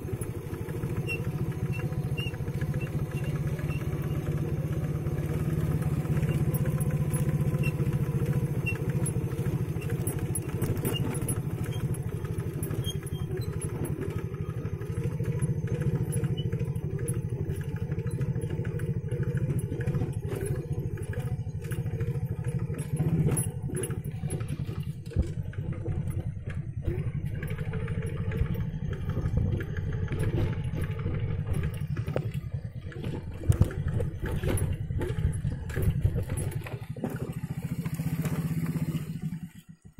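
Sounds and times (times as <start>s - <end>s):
knocks and rattles from bumps: 0.0s - 39.9s
motorcycle engine running: 0.0s - 39.9s.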